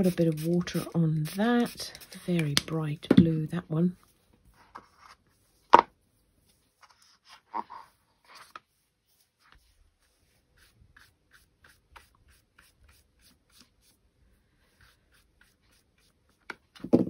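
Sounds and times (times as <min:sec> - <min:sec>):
paintbrush strokes on card: 0:00.0 - 0:02.8, 0:03.9 - 0:16.5.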